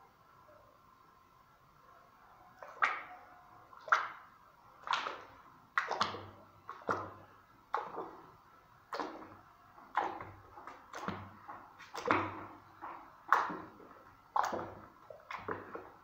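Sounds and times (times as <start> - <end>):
hand squelching wet putty: 2.6 - 16.0.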